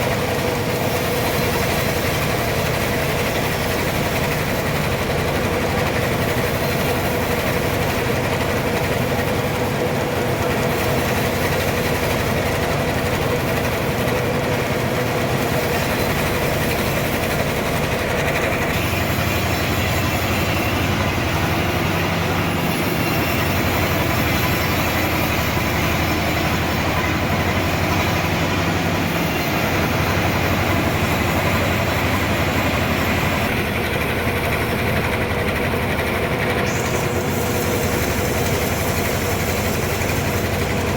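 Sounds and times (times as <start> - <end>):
sawmill machinery sawing log: 0.0 - 40.9.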